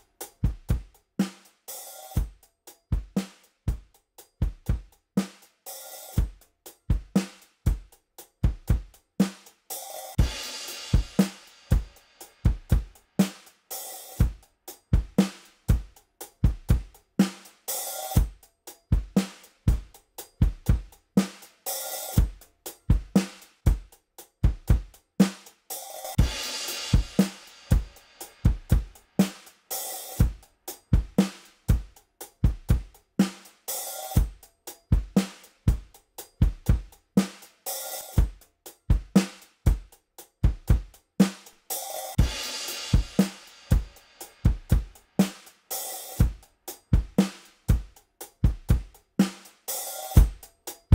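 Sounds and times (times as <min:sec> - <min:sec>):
drum kit groove: 0:00.0 - 0:50.9.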